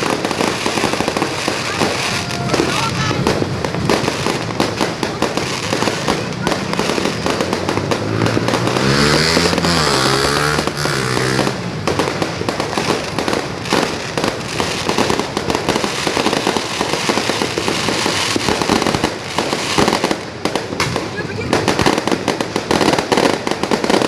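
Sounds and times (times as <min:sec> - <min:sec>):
fireworks and firecrackers banging: 0:00.0 - 0:24.0.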